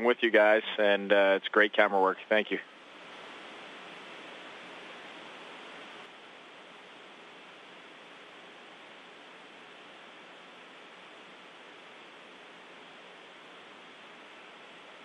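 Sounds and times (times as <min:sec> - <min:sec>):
radio feed hiss: 0:00.0 - 0:15.0.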